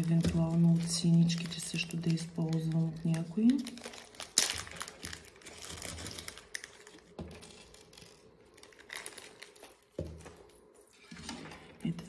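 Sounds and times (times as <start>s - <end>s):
plastic zip bag rustling: 0.0s - 10.0s.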